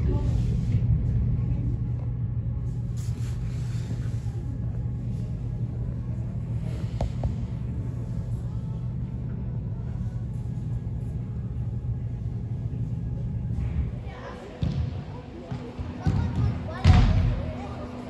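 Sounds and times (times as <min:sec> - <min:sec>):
low droning machinery hum: 0:00.0 - 0:18.0.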